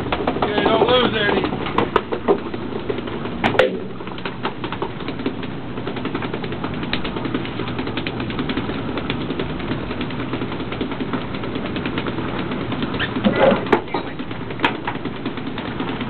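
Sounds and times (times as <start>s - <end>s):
boat engine drone: 0.0s - 16.0s
rapid tapping and clicking: 0.0s - 16.0s.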